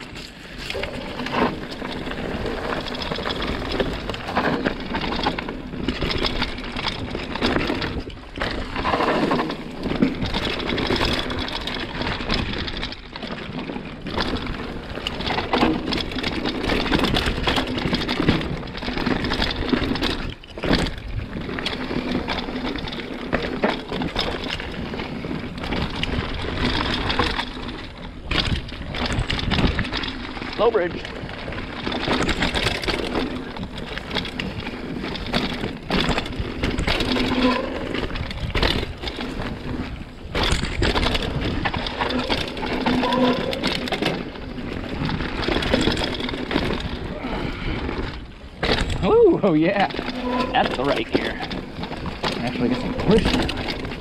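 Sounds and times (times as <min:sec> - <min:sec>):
bike rattling and knocking: 0:00.0 - 0:54.0
bike tyres on dirt: 0:00.0 - 0:54.0.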